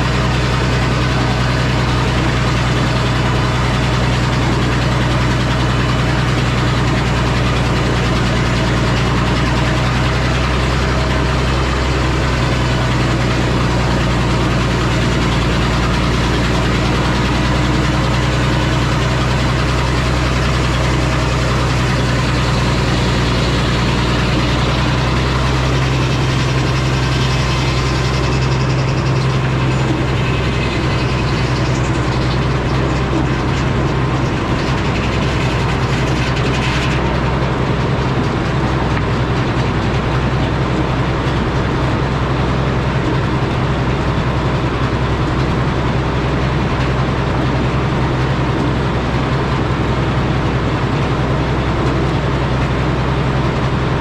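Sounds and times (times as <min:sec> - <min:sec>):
heavy engine drone: 0:00.0 - 0:54.0
sawmill mechanical noise: 0:00.0 - 0:54.0.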